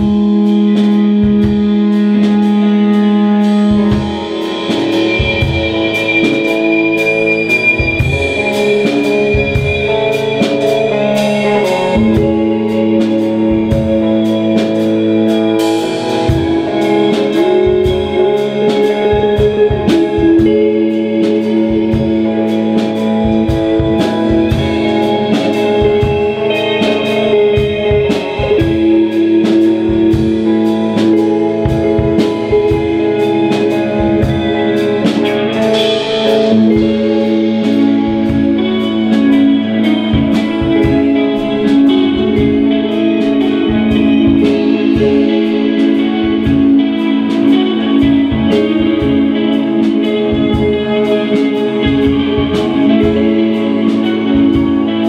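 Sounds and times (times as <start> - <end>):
drum kit steady beat: 0.0 - 55.0
electric guitars ringing chords: 0.0 - 55.0.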